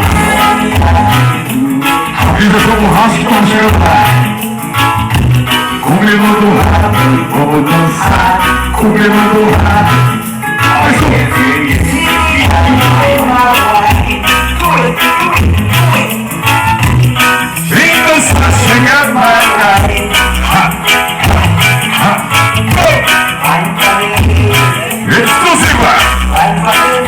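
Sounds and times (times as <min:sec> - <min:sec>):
song over sound system: 0:00.0 - 0:27.0.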